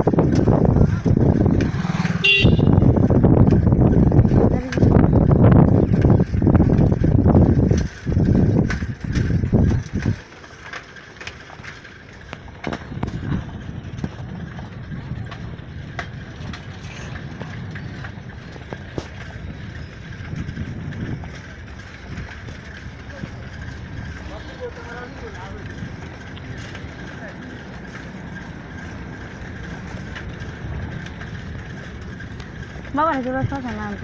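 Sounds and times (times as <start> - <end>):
wind buffeting microphone: 0.0 - 10.7, 11.4 - 34.0
vehicle road noise: 0.0 - 34.0.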